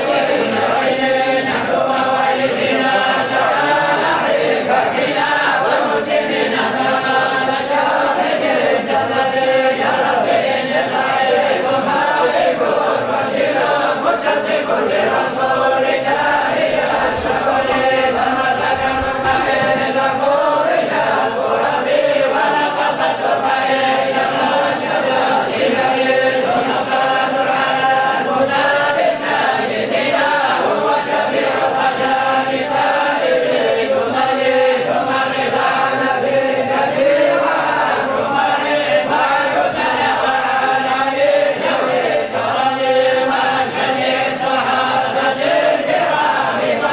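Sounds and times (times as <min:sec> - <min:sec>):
group of voices chanting: 0:00.0 - 0:46.9.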